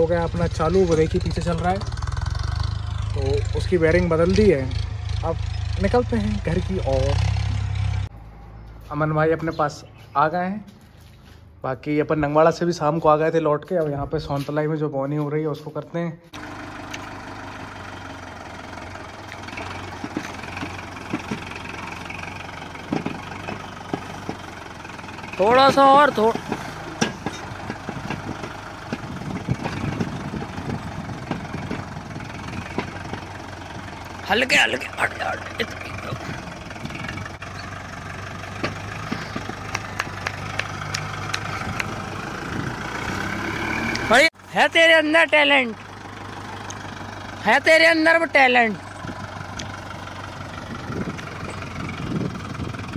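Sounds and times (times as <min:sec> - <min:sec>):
tractor diesel engine running: 0:00.0 - 0:10.1, 0:16.3 - 0:52.9.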